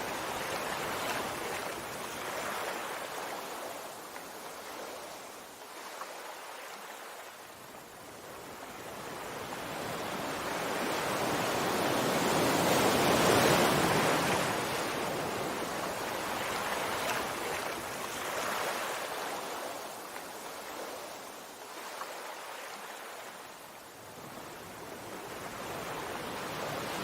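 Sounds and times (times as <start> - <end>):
sea waves on a shore: 0.0 - 27.0.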